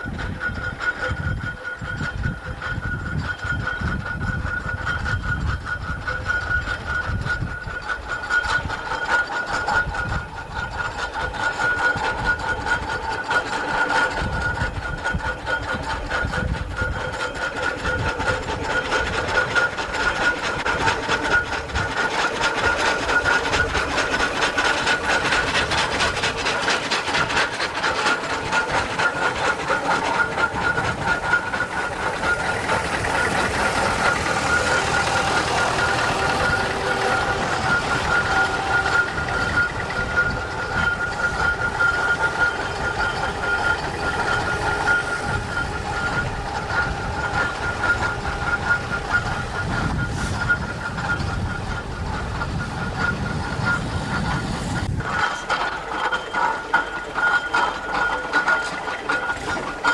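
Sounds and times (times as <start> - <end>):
high mechanical whine: 0.0 - 59.9
steam engine clatter and rumble: 0.0 - 59.9.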